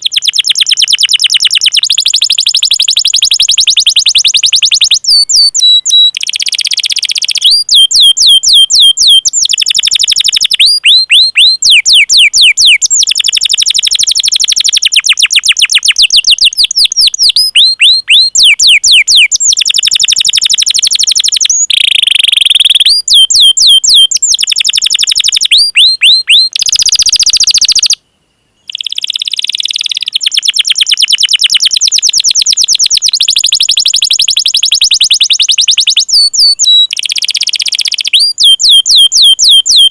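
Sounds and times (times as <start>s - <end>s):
canary singing: 0.0s - 28.0s, 28.6s - 39.9s.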